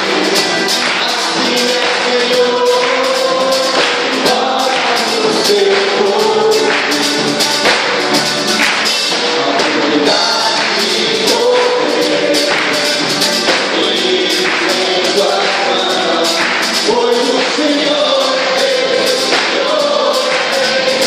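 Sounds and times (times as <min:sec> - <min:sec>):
gospel singing over a band: 0:00.0 - 0:21.0
percussion beat: 0:00.0 - 0:21.0.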